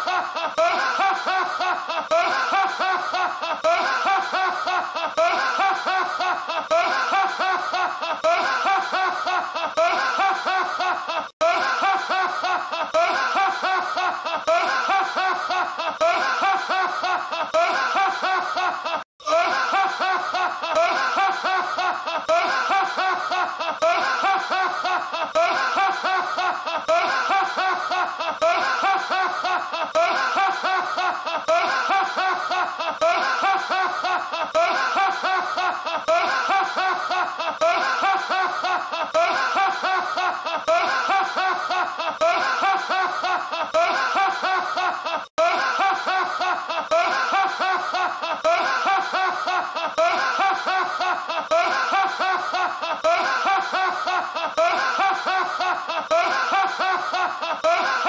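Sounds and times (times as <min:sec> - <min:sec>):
man laughing loudly: 0:00.0 - 0:58.0.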